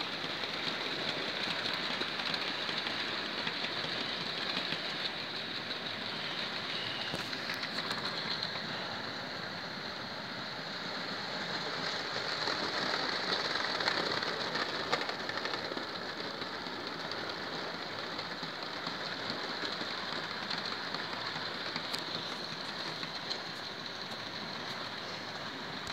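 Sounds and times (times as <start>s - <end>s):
model locomotive motor: 0.0s - 25.9s
model train rolling on rails: 0.0s - 25.9s.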